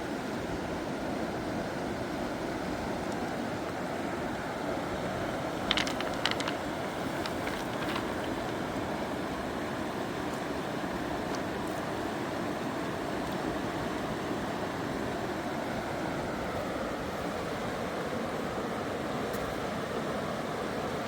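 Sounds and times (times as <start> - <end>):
fast river rushing: 0.0 - 21.0.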